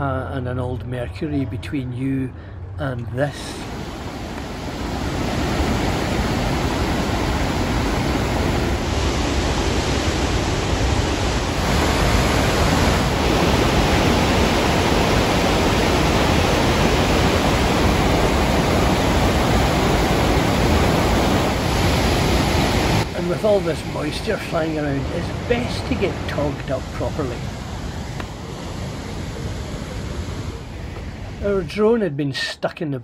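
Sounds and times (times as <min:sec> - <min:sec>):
waterfall rushing: 0:03.5 - 0:31.4.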